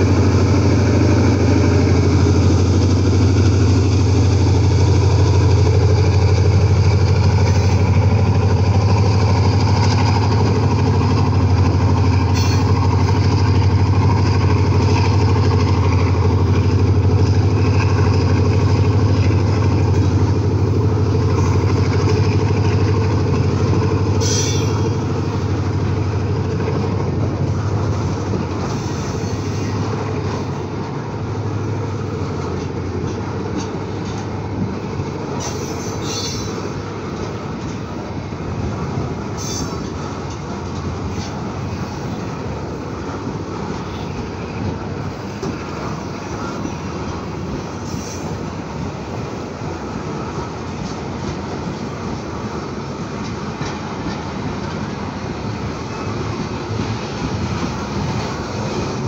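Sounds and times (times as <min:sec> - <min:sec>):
diesel locomotive droning: 0:00.0 - 0:59.0.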